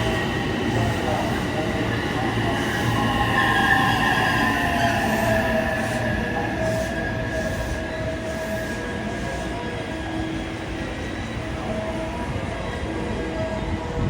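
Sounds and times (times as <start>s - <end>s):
electric train rumbling and whining: 0.0s - 14.0s.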